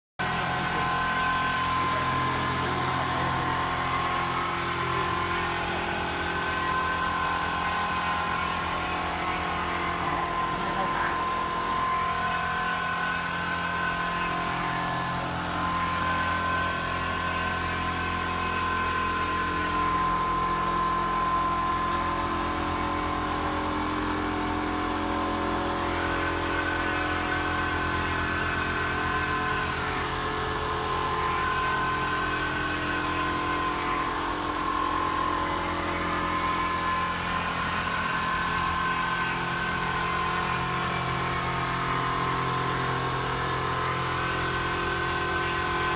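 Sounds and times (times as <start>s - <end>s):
motor whine rising and falling: 0.2s - 45.9s
quilting machine humming: 0.2s - 45.9s.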